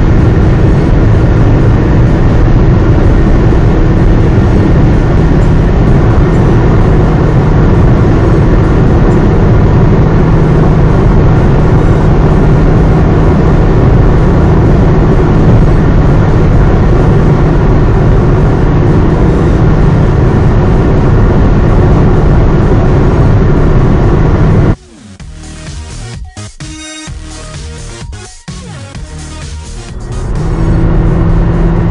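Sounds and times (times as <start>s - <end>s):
car engine hum: 0.0s - 31.9s
road and tyre noise: 0.0s - 31.9s.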